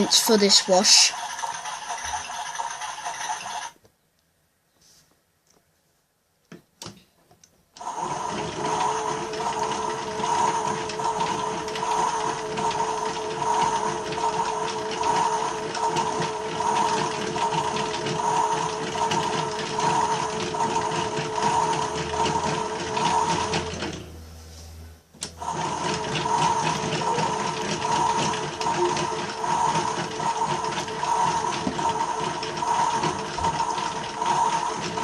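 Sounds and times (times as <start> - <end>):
toy washing machine motor hum: 0.0 - 3.8, 7.8 - 35.0.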